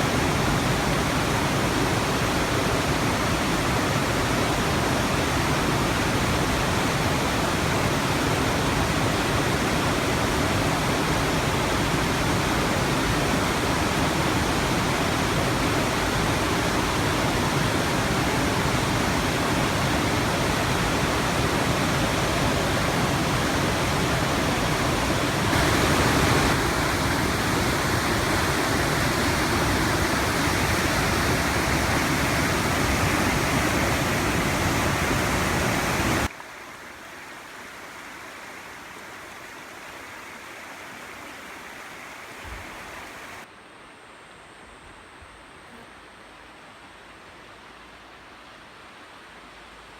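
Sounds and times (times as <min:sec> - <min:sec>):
river water rushing over rocks: 0:00.0 - 0:43.5.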